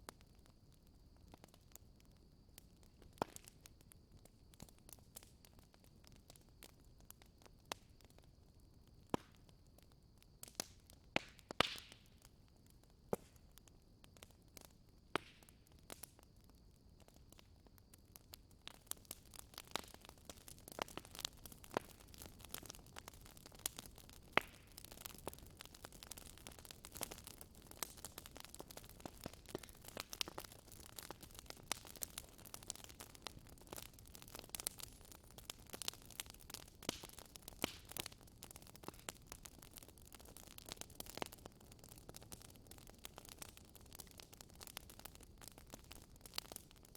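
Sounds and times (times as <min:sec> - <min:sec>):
soft hiss of fire: 0:00.0 - 0:46.9
wood fire crackling and popping: 0:00.0 - 0:46.9.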